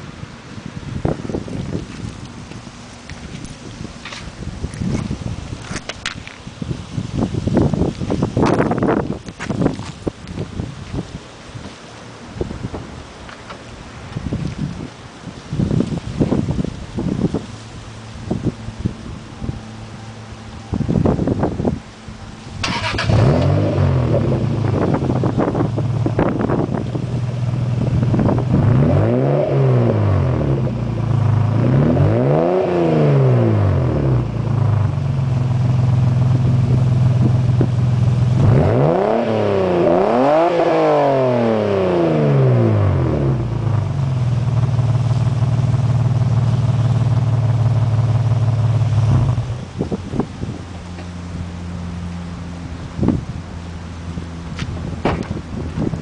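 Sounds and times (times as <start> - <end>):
car engine idling and revving: 0.0 - 56.0
wind noise on microphone: 0.0 - 56.0.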